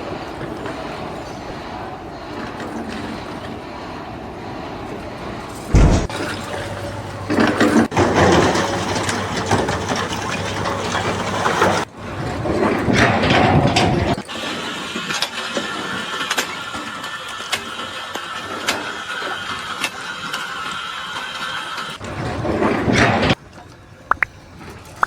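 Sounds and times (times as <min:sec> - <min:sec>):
engine and machinery noise: 0:00.0 - 0:25.0.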